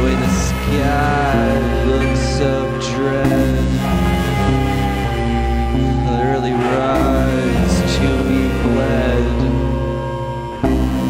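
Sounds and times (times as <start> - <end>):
droning noise-rock music: 0.0 - 11.0.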